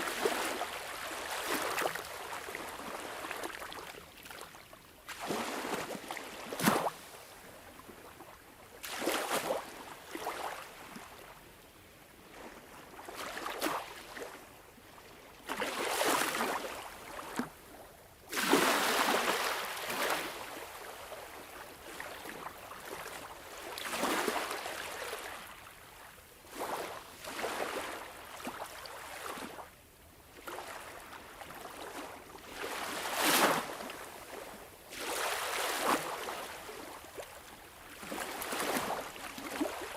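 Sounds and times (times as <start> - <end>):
sea water lapping and splashing: 0.0 - 11.5, 12.1 - 39.9.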